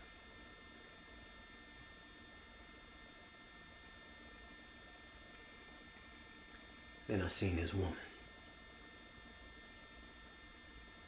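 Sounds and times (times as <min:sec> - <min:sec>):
faint electrical hum and hiss: 0:00.0 - 0:11.0.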